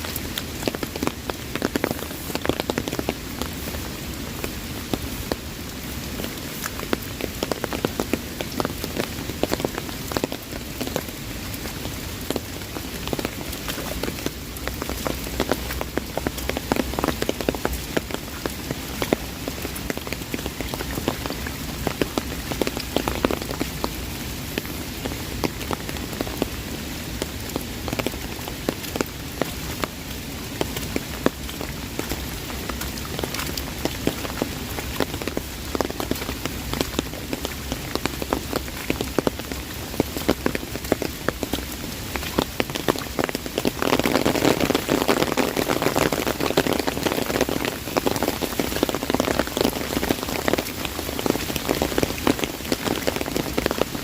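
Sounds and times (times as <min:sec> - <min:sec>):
rain pattering on umbrella: 0:00.0 - 0:54.0.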